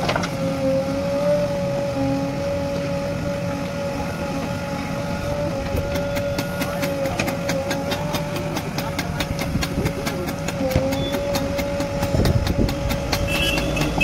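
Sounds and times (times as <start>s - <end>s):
diesel engine whining under load: 0.0s - 14.0s.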